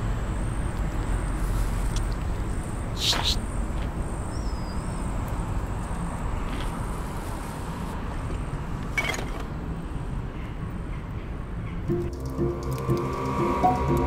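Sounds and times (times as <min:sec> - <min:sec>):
outdoor background rumble: 0:00.0 - 0:14.0.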